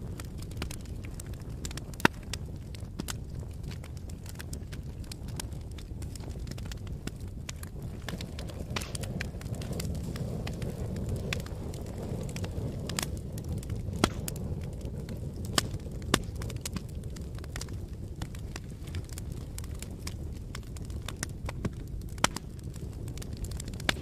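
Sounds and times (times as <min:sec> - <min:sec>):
sharp pops of burning logs: 0:00.0 - 0:24.0
wood fire crackling: 0:00.0 - 0:24.0.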